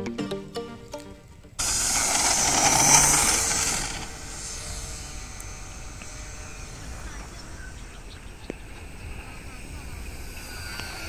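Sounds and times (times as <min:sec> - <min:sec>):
model plane motor whine: 0:01.6 - 0:11.0.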